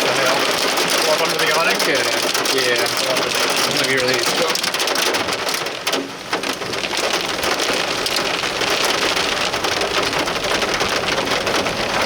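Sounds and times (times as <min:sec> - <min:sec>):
rain and hail pelting a vehicle: 0:00.0 - 0:12.0.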